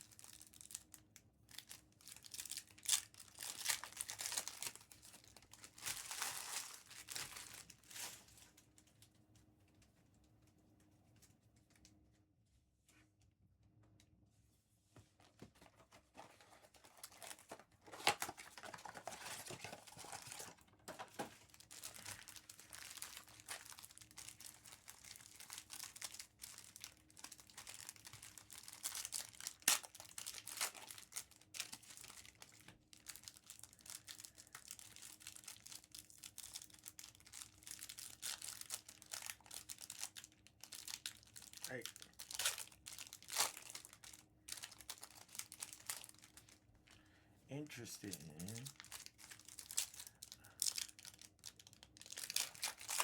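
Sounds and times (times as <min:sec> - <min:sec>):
foil wrapper ripping: 0:00.0 - 0:08.8, 0:16.2 - 0:46.6, 0:48.0 - 0:53.0
foil wrappers crinkling: 0:00.0 - 0:09.1, 0:15.6 - 0:47.0, 0:47.7 - 0:53.0.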